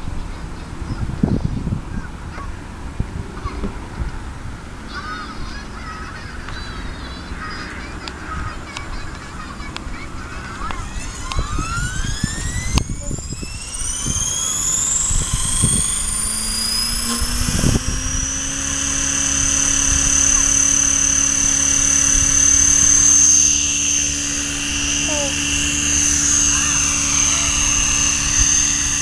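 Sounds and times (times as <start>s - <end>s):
wind buffeting microphone: 0.0s - 4.8s, 9.9s - 29.0s
rc helicopter motor whine: 2.6s - 29.0s.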